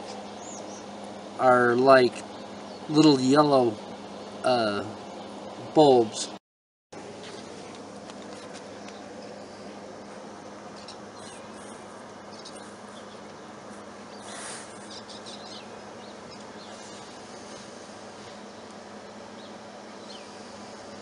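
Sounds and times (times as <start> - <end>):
small birds chirping: 0.0 - 5.6, 8.2 - 21.0
steady low hum: 0.0 - 6.4, 7.0 - 21.0.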